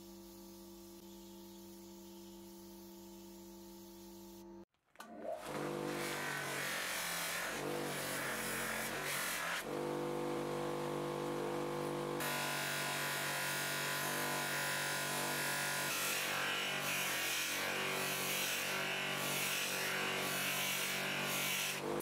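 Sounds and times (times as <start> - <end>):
bench grinder motor hum: 0.4 - 22.0.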